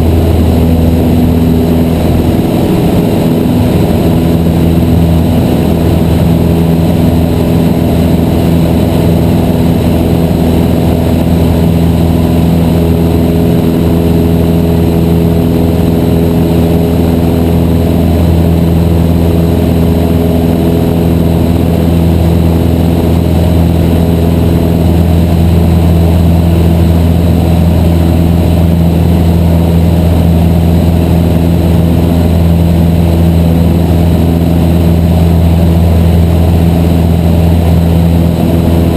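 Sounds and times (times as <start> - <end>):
light aircraft engine droning: 0.0 - 38.9.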